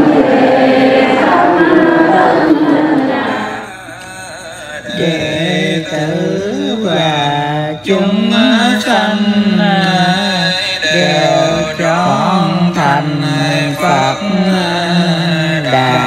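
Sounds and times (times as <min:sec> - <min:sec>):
person chanting slow melody: 0:00.0 - 0:16.0.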